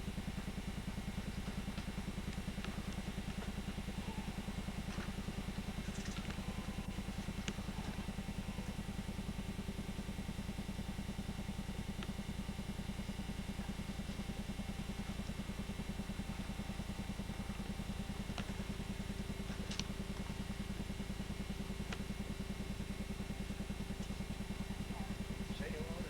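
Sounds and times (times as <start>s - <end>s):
pulsing low hum: 0.0s - 26.0s.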